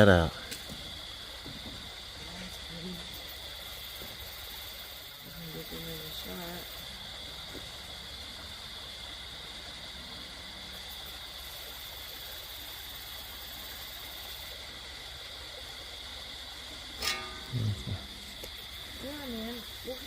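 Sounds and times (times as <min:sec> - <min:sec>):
even hiss: 0:00.0 - 0:20.0
insects droning: 0:00.0 - 0:20.0.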